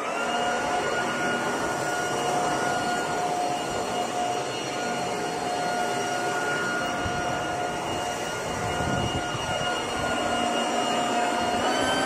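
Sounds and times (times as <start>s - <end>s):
leaf blower fan whine: 0.0s - 12.0s.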